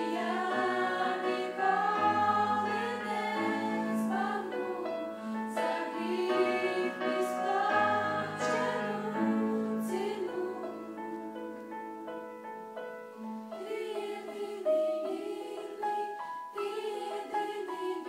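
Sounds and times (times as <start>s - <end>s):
women's choir singing: 0.0s - 12.3s, 13.6s - 18.0s.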